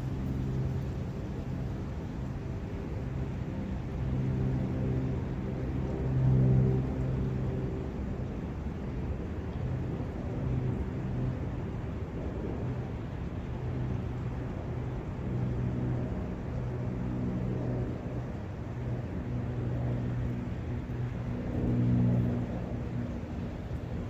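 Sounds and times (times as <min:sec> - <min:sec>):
low rumbling wind: 0:00.0 - 0:24.0.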